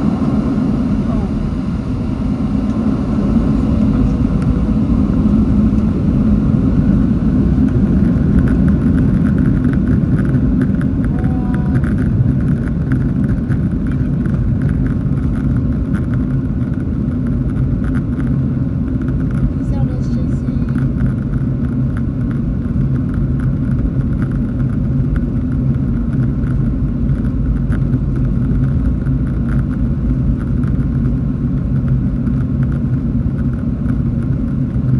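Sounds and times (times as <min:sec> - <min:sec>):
jet engine and landing gear rumble: 0:00.0 - 0:34.9.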